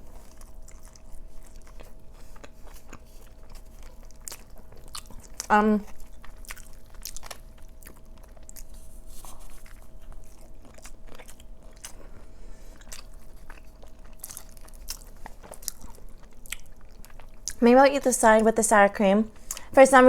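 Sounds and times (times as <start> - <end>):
chewing and crunching food: 0.0 - 19.8
faint steady hum: 0.0 - 20.0.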